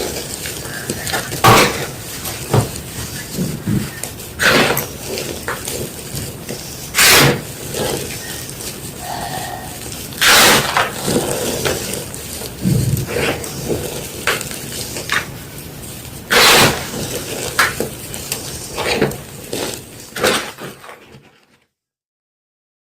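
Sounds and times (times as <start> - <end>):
chalk crunching: 0.0 - 20.6
chalk crackling and crumbling: 0.0 - 21.6.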